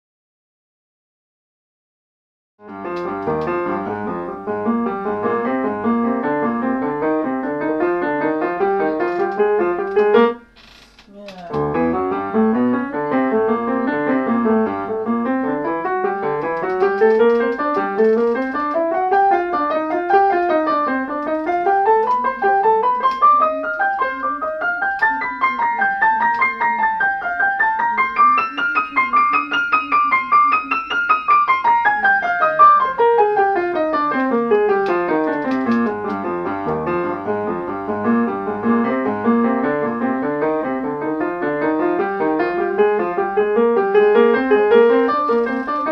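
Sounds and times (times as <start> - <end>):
piano music: 2.6 - 10.5, 11.4 - 45.9.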